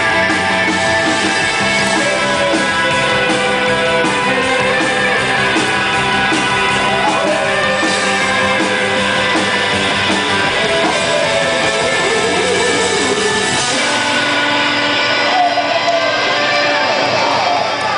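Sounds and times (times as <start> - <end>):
electric guitars: 0.0 - 17.9
live rock band playing: 0.0 - 17.9
singer through loudspeakers: 0.8 - 17.9.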